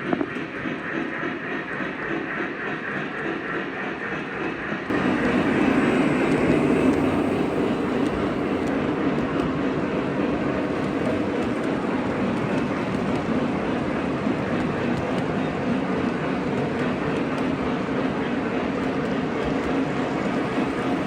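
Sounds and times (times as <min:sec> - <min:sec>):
model train rolling on track: 0:00.0 - 0:21.0.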